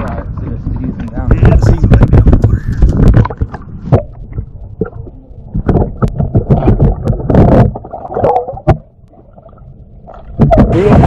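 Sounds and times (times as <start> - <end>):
muffled underwater sloshing: 0.0 - 11.0.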